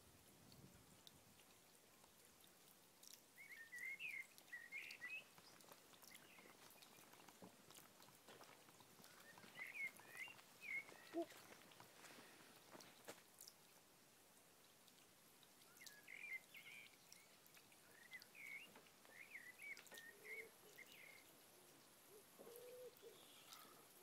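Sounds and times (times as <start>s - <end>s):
faint bird song: 3.0s - 13.7s, 14.6s - 24.0s.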